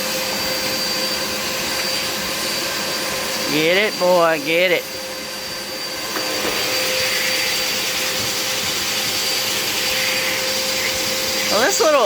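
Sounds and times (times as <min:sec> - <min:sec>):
vacuum cleaner motor running: 0:00.0 - 0:12.0.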